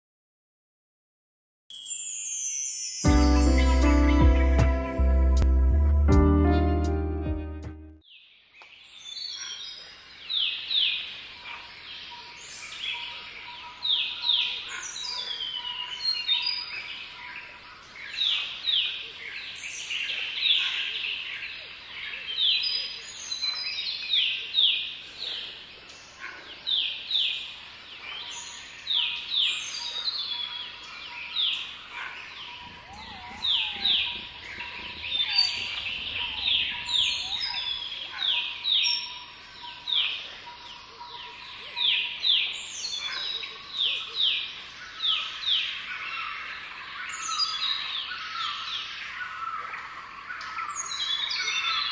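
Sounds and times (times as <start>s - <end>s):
songbirds chirping and singing: 8.0s - 51.9s.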